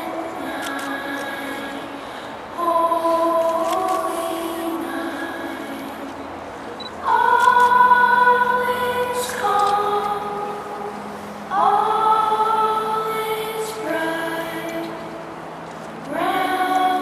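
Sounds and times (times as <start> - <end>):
sustained choir-like chords: 0.0 - 17.0.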